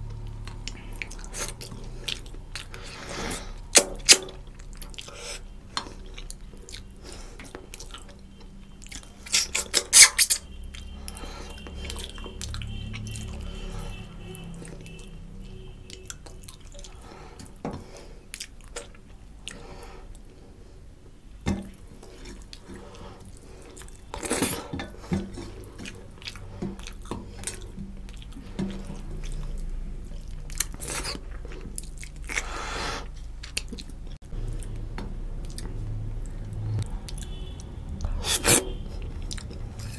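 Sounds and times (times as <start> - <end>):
wet chewing and lip smacks: 0.0 - 13.9, 14.6 - 15.0, 15.8 - 20.3, 21.6 - 39.9.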